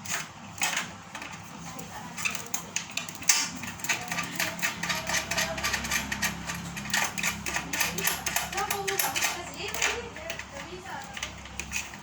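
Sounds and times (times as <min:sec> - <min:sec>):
metal parts clicking and knocking: 0:00.0 - 0:01.4, 0:02.1 - 0:12.0.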